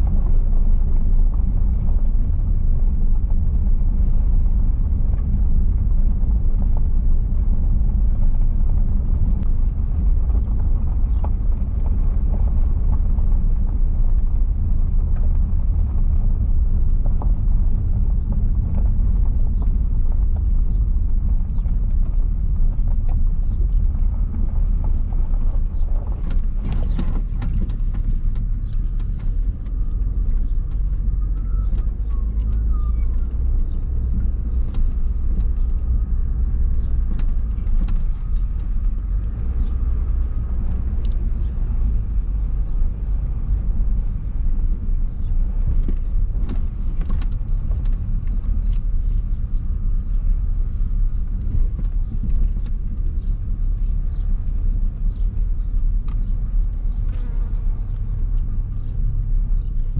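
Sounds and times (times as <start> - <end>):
car engine and tyre rumble: 0.0 - 59.9
stones ticking under tyres: 0.0 - 59.9.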